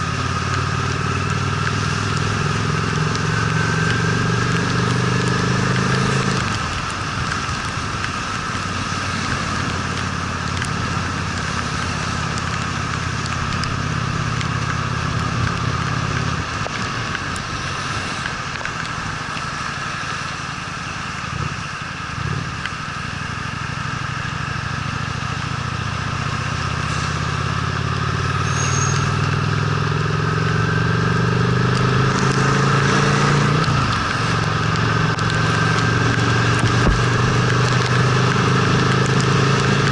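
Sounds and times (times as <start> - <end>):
motorcycle engine: 0.0 - 39.9
wind and tyre noise: 0.0 - 39.9.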